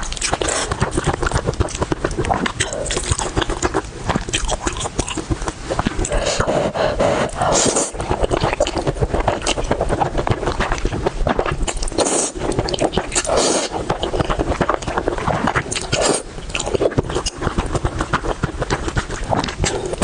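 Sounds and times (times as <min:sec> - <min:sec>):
chewing and biting: 0:00.0 - 0:20.0.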